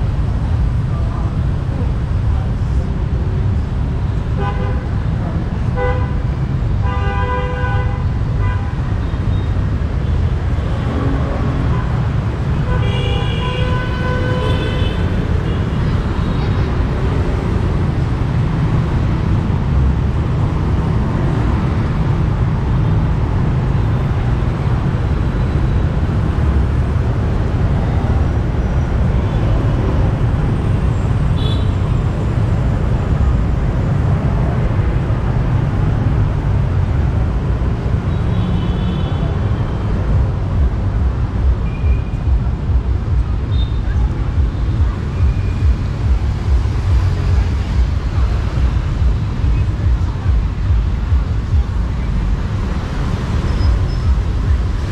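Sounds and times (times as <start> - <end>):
motorbike and car engines: 8.0 - 54.9.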